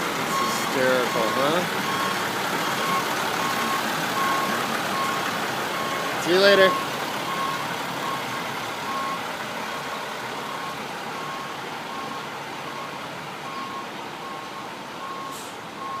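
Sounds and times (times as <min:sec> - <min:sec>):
reversing alarm beeping: 0:00.3 - 0:05.2, 0:05.8 - 0:16.0.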